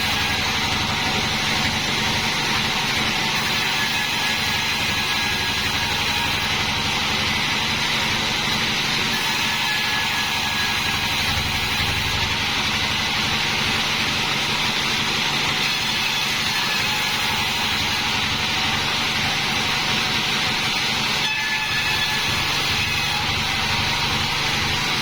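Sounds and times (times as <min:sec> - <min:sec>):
band sawmill running: 0:00.0 - 0:25.0.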